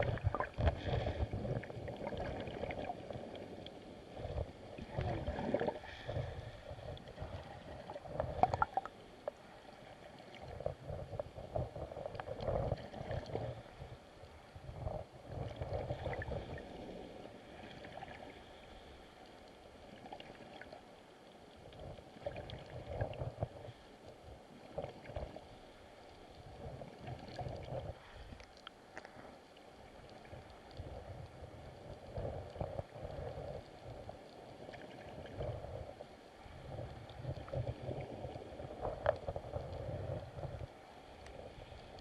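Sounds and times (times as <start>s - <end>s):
muffled underwater river rushing: 0.0s - 42.0s.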